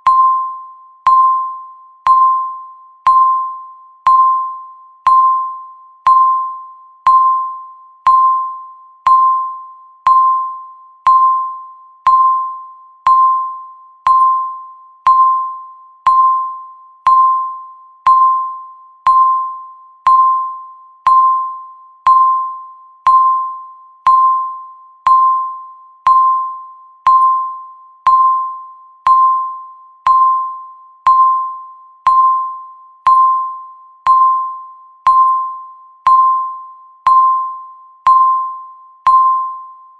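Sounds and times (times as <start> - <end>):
timer electronic beeps: 0.0 - 39.9.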